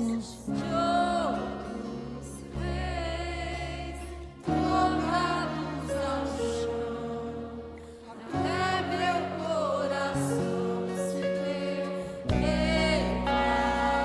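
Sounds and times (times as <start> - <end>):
bass: 0.0 - 14.0
person singing wordless melody: 0.0 - 14.0.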